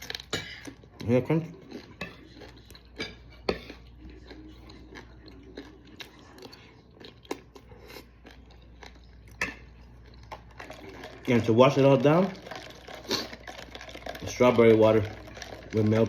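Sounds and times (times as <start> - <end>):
crunching and chewing fried food: 0.0 - 16.0.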